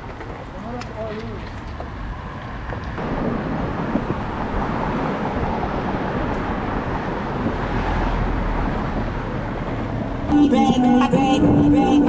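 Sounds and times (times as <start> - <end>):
skateboard wheels rolling on pavement: 0.0 - 12.0.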